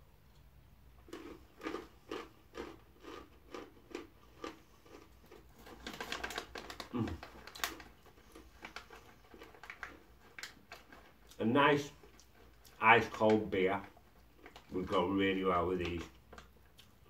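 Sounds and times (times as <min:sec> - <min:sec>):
chewing crunchy snacks: 0:00.4 - 0:17.0
plastic snack bag rustling: 0:01.0 - 0:16.7.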